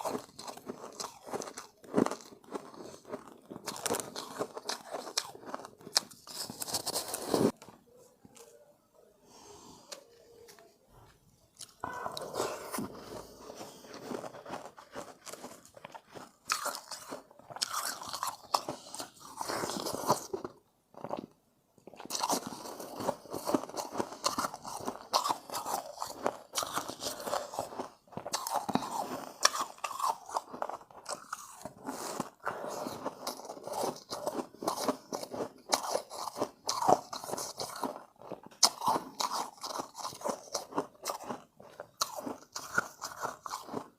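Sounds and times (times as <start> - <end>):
crunching and chewing ice: 0.0 - 7.7, 9.9 - 43.9.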